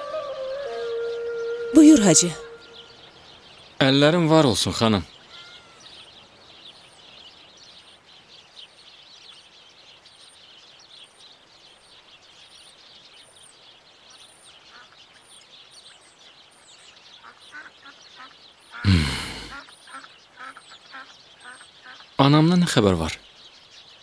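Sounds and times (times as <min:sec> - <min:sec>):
small birds chirping: 0:01.8 - 0:24.0.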